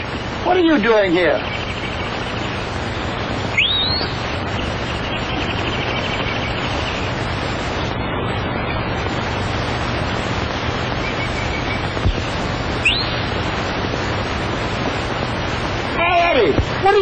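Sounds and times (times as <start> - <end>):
rushing hiss: 0.0 - 17.0.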